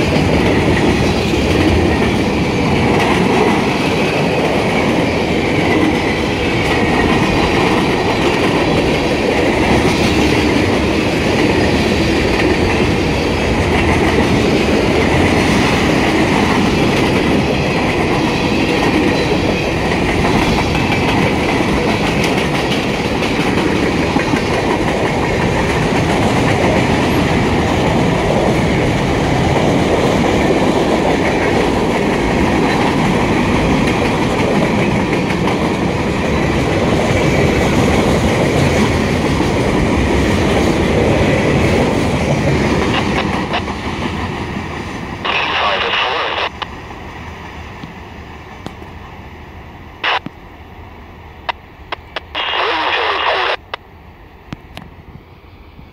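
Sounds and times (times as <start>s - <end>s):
freight train wheels on rails: 0.0s - 55.9s.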